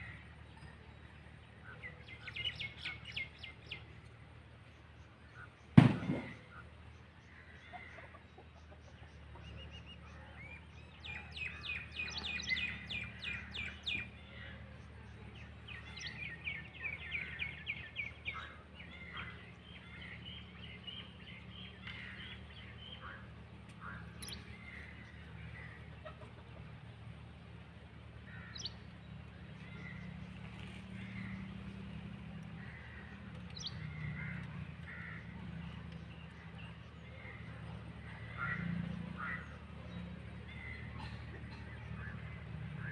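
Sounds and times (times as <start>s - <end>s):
birds chirping: 0.0s - 27.5s, 28.1s - 42.9s.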